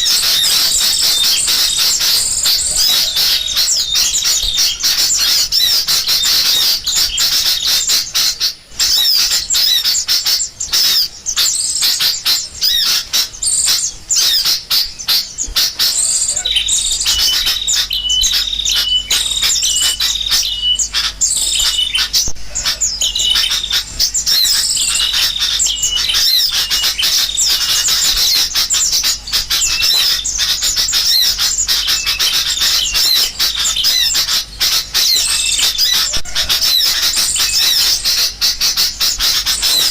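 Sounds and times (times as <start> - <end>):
bird whistled notes: 0.0 - 39.9
birds chattering in alarm: 0.0 - 39.9
songbirds chirping: 0.0 - 39.9.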